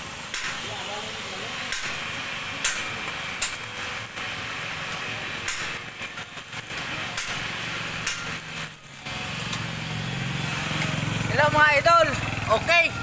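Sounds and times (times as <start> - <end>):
electric arc welding crackling hiss: 0.0 - 13.0.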